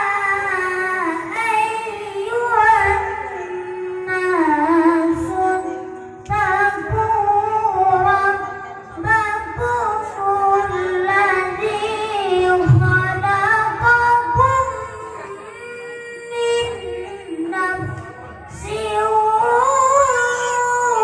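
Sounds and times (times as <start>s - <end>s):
child reciting melodically over speakers: 0.0s - 21.0s.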